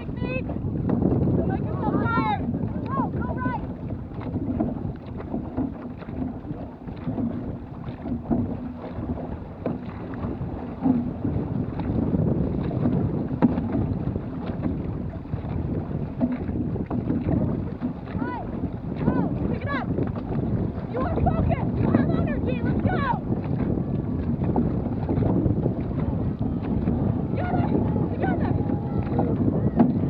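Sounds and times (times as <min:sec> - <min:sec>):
paddle strokes splashing: 0:00.0 - 0:30.0
water rushing along canoe hull: 0:00.0 - 0:30.0
wind buffeting microphone: 0:00.0 - 0:30.0.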